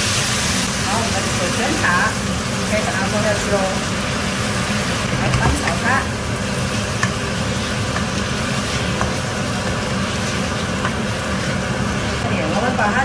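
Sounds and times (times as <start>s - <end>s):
stir-fry sizzling in a wok: 0.0s - 13.0s.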